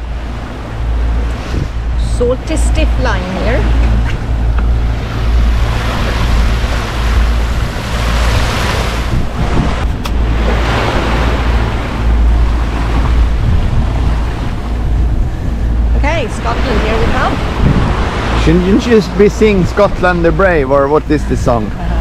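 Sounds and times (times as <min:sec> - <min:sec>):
sea water rushing along hull: 0:00.0 - 0:22.0
wind buffeting the microphone: 0:00.0 - 0:22.0.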